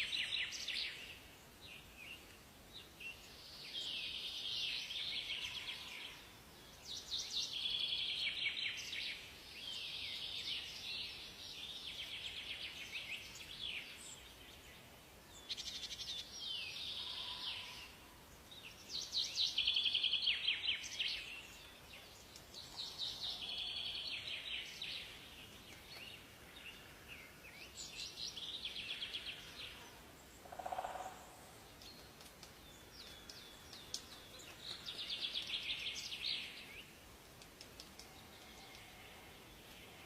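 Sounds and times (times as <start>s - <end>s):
faint steady hiss: 0.0s - 40.0s
songbirds singing: 0.0s - 40.0s.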